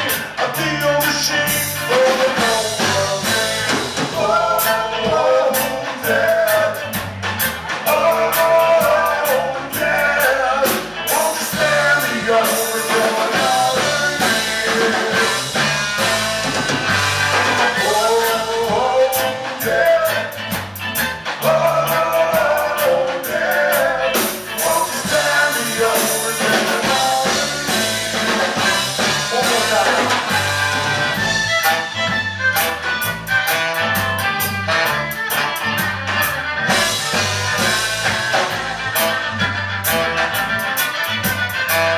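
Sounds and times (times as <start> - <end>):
drums and cymbal hits: 0.0 - 41.9
electric guitars: 0.0 - 41.9
live band music: 0.0 - 41.9
saxophone: 7.9 - 41.9.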